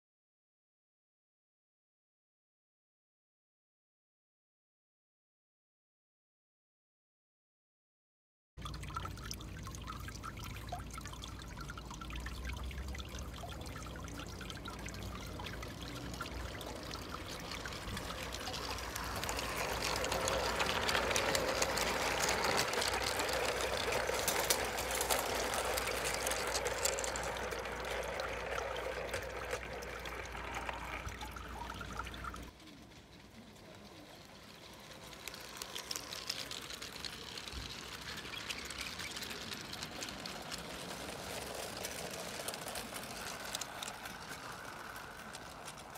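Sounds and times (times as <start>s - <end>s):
model train rolling on track: 8.6s - 45.9s.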